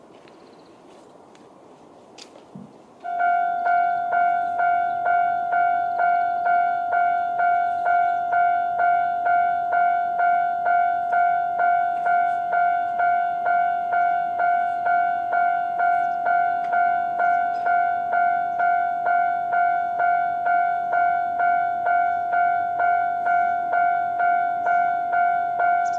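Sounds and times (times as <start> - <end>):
level crossing electronic bell: 3.1 - 25.9.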